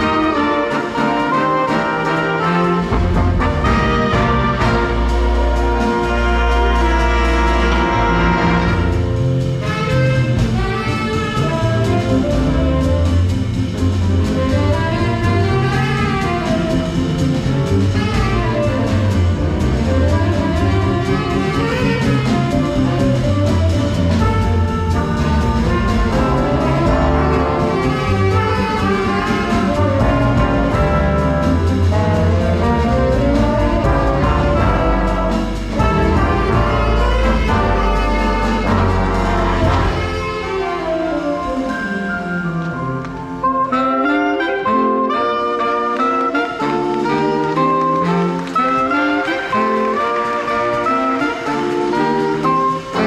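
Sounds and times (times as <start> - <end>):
big band playing jazz: 0.0 - 53.0.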